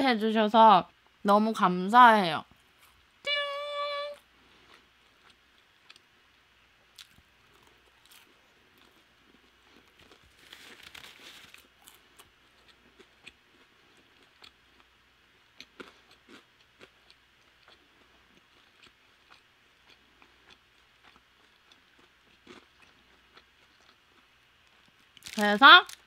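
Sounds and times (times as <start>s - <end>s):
chewing crispy chicken: 4.4s - 26.0s.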